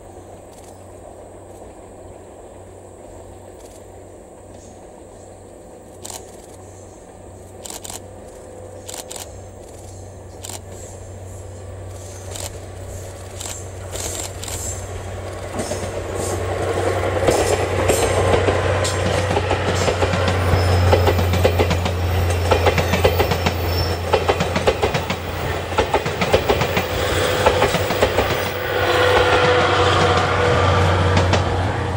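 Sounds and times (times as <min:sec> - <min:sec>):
diesel locomotive engine hum: 0:00.0 - 0:31.9
train wheels clicking over rail joints: 0:05.6 - 0:31.9.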